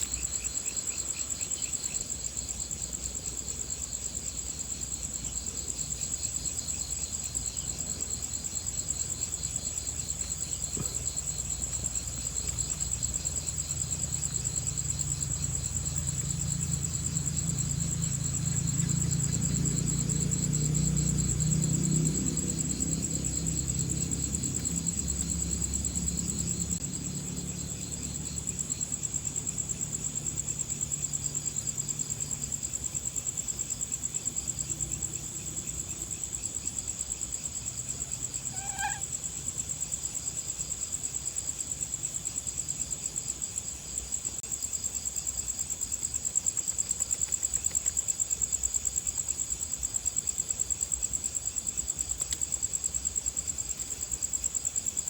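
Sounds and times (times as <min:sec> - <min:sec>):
insects trilling in grass: 0:00.0 - 0:55.0.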